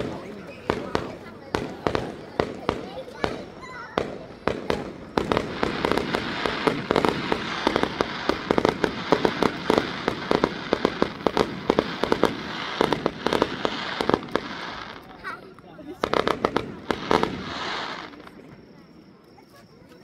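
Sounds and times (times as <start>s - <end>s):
fireworks bangs: 0.0s - 18.8s
fireworks crackle: 0.0s - 20.0s.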